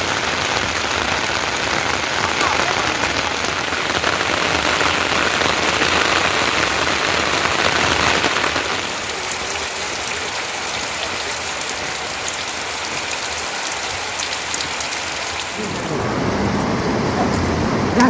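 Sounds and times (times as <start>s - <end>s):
heavy rain falling: 0.0s - 18.0s
patter of raindrops: 0.0s - 18.0s.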